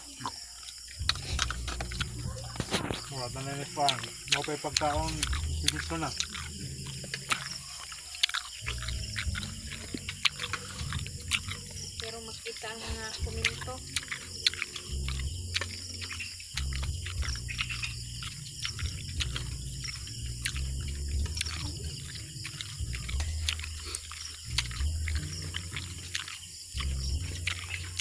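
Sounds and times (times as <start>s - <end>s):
low rumble: 1.0s - 7.8s, 8.6s - 26.2s.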